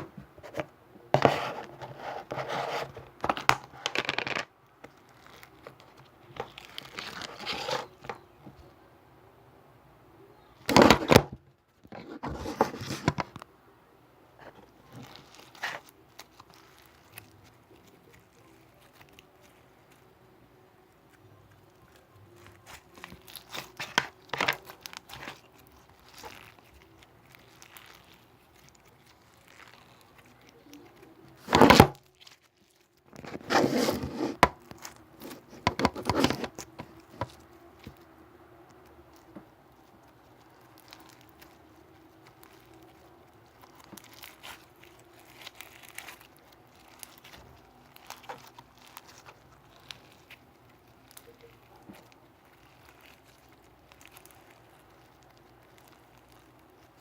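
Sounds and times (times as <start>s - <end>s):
rustling and crinkling: 0.0s - 8.7s, 10.5s - 13.5s, 14.4s - 57.0s.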